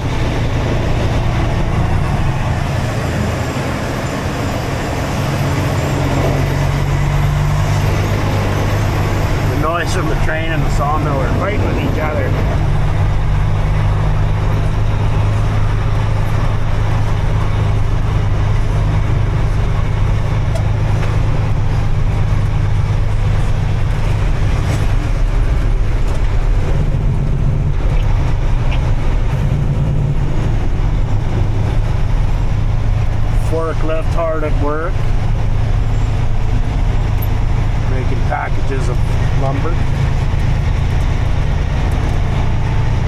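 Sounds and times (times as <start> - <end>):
road noise: 0.0 - 43.0
vehicle engine hum: 0.0 - 43.0.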